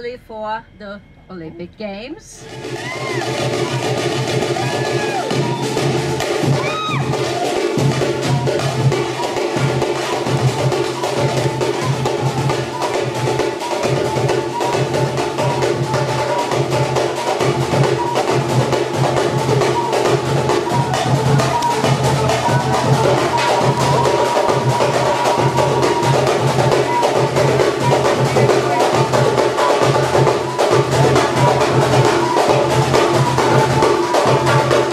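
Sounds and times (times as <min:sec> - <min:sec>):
samba drumming: 0:02.4 - 0:34.9.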